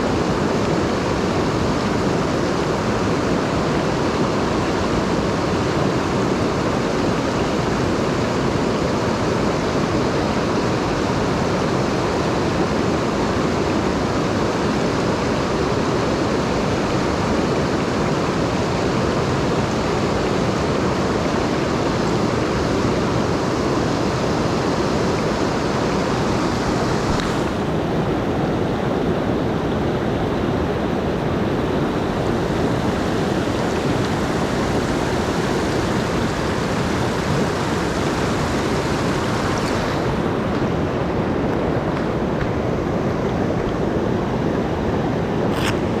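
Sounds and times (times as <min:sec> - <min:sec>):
mountain stream rushing: 0:00.0 - 0:46.0.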